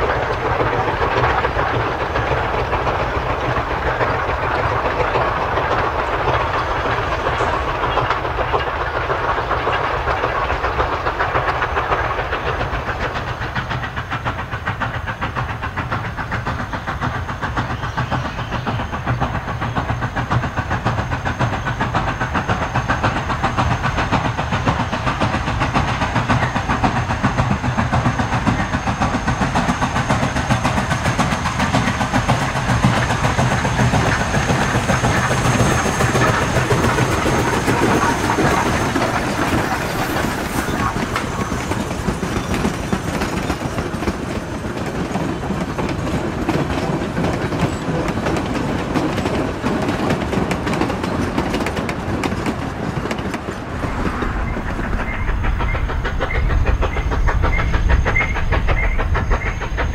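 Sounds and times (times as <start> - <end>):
steam hissing: 0.0 - 59.9
steam train running: 0.0 - 59.9
train cars rolling over rails: 0.0 - 59.9.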